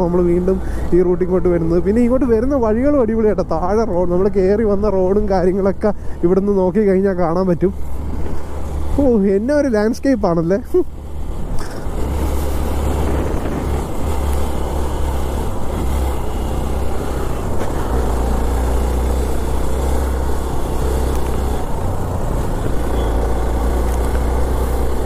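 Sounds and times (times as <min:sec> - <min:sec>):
motorcycle engine drone: 0:00.0 - 0:25.0.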